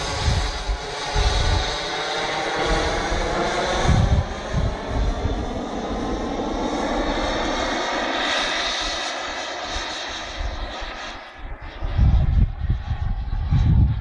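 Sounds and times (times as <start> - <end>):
wind buffeting microphone: 0.0 - 7.6, 8.3 - 14.0
model jet engine rush: 0.0 - 14.0.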